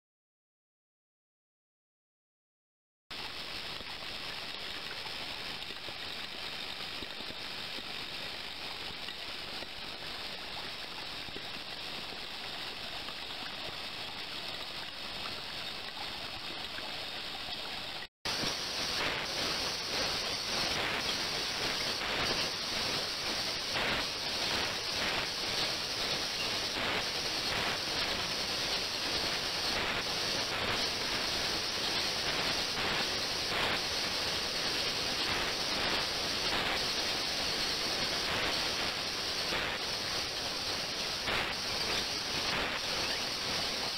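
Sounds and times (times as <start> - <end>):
ultrasonic bath hiss and crackles: 3.1 - 43.9.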